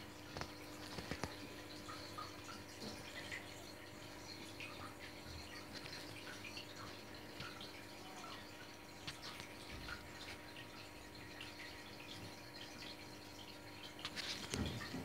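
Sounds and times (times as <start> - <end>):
faint steady hum: 0.0 - 15.0
small water splashes: 0.0 - 15.0
water dripping and trickling: 0.0 - 15.0.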